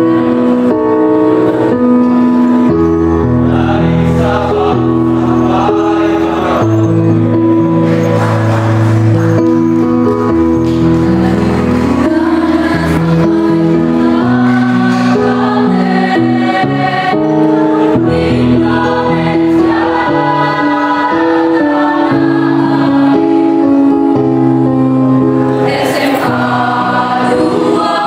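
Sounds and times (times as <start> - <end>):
choir singing in harmony: 0.0 - 10.0, 10.9 - 28.0.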